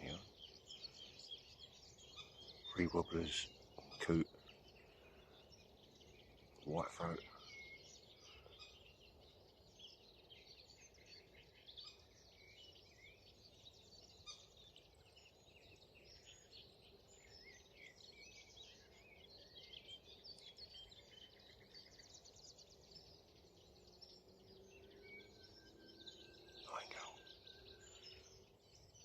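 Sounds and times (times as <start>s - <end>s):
nightingale song: 0.0s - 29.0s
songbirds singing: 0.0s - 29.0s.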